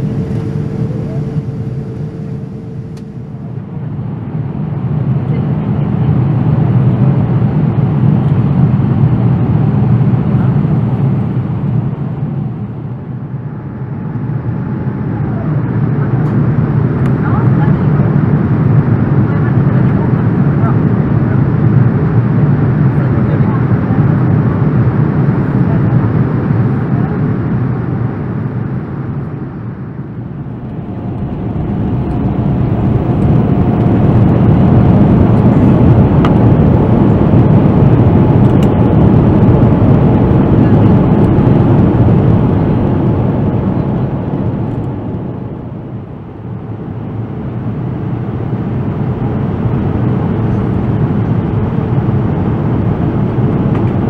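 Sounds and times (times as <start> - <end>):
airplane cabin airflow and engine: 0.0 - 54.0.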